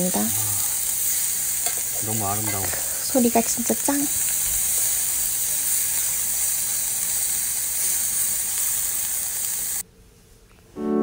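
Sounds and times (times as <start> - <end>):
pork sizzling on a grill: 0.0 - 9.8.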